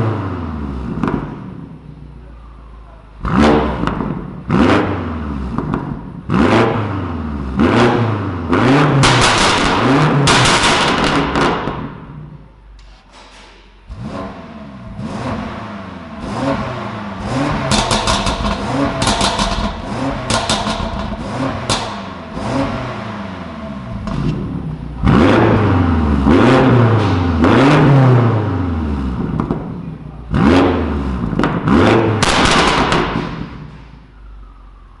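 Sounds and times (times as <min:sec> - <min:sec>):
car engine revving: 0:00.0 - 0:12.7, 0:13.8 - 0:34.9
exhaust crackles: 0:00.7 - 0:13.0, 0:13.8 - 0:35.0.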